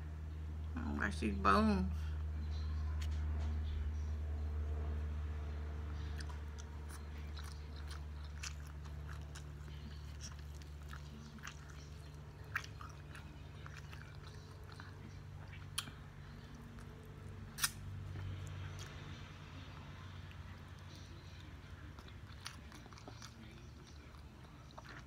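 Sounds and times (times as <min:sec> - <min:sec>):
low steady hum: 0:00.0 - 0:25.0
close chewing with mouth clicks: 0:02.2 - 0:25.0.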